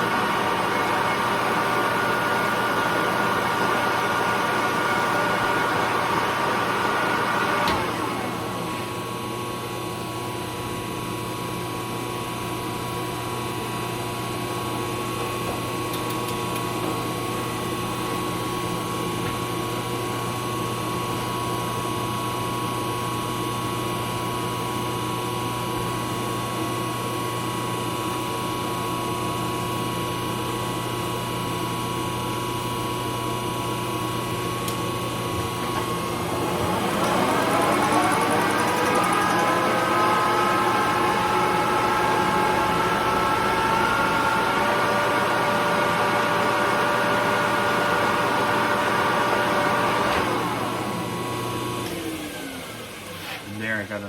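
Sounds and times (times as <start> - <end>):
lathe motor hum and whine: 0.0 - 53.6.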